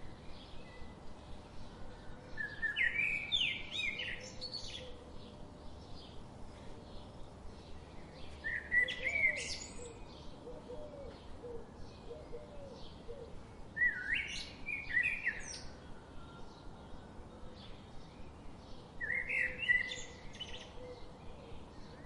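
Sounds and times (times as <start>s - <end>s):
faint steady hiss: 0.0s - 22.0s
songbirds singing and chirping: 0.0s - 22.0s.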